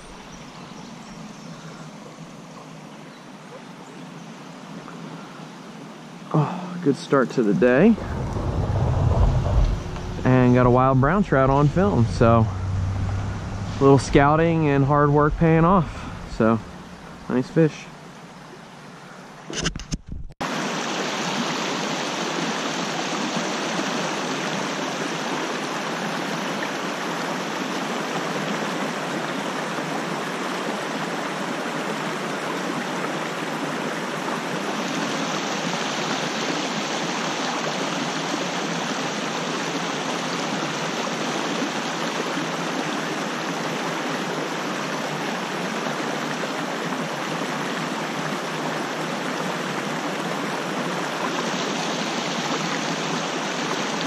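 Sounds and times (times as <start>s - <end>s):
creek rushing over rocks: 6.4s - 18.5s, 20.4s - 54.0s.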